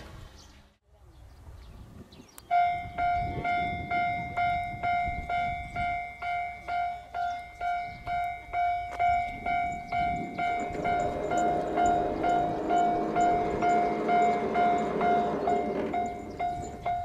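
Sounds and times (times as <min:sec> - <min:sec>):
level-crossing alarm bell: 0:02.5 - 0:17.0.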